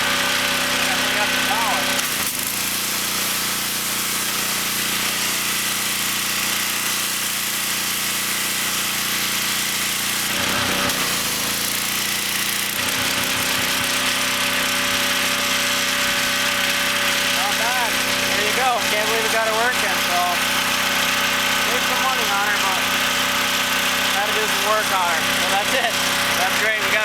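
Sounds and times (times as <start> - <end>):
pressure washer engine running: 0.0 - 27.0.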